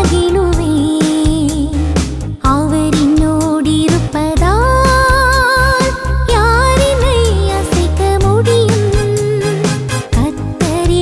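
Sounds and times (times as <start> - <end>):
band with pulsing bass: 0.0 - 11.0
woman singing: 0.0 - 11.0.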